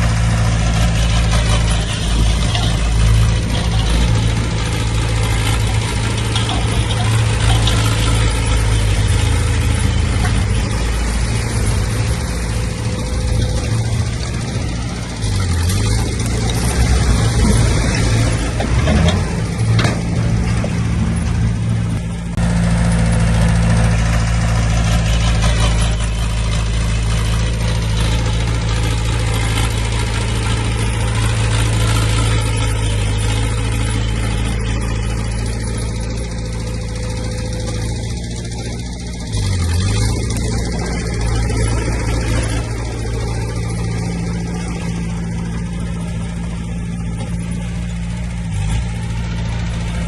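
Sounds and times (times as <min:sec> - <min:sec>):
heavy machinery diesel engine: 0:00.0 - 0:50.0
rough clattering noise: 0:00.0 - 0:50.0.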